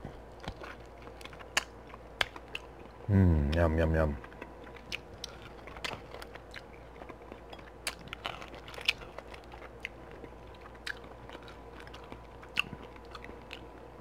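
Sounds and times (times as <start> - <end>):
person chewing: 0.2 - 13.8.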